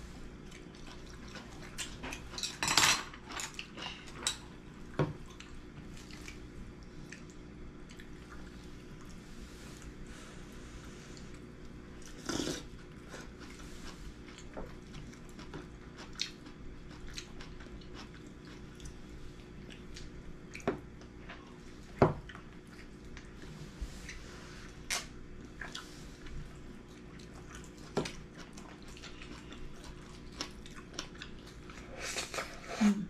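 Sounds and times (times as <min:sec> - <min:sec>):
faint steady hum: 0:00.0 - 0:33.0
chewing: 0:00.4 - 0:10.0, 0:11.1 - 0:24.3, 0:24.9 - 0:32.6.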